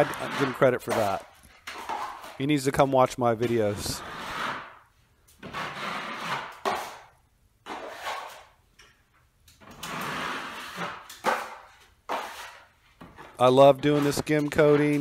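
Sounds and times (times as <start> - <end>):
taping knife scraping ceiling: 0.0 - 2.4, 3.4 - 8.6, 9.6 - 15.0.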